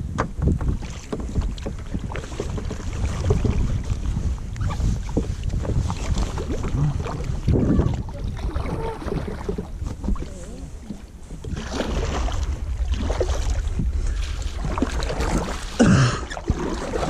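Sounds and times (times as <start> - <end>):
paddle splashing water: 0.0 - 17.0
wind rumbling on microphone: 0.0 - 17.0.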